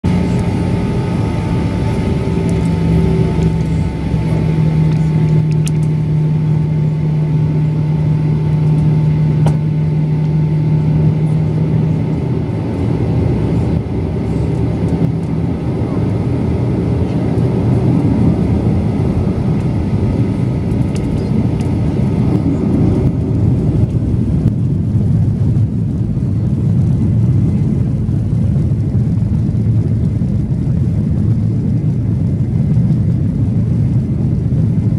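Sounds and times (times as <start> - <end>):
engine hum tones: 0.0 - 34.9
jet engines rumbling in cabin: 0.0 - 34.9.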